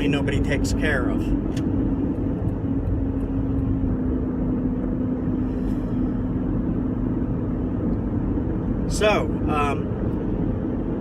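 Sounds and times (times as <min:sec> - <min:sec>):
droning hum: 0:00.0 - 0:11.0
engine and road rumble: 0:00.0 - 0:11.0.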